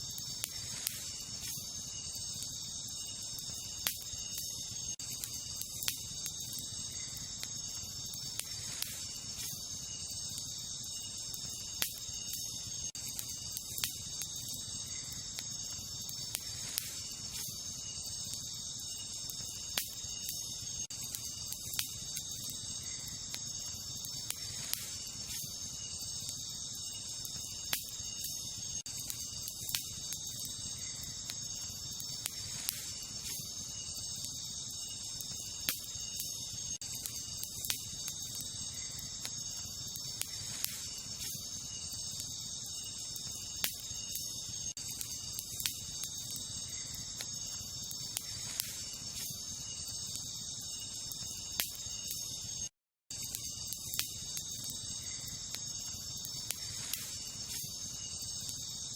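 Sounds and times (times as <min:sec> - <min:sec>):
campfire crackling and popping: 0:00.0 - 0:58.9
crickets chirping: 0:00.0 - 0:58.9.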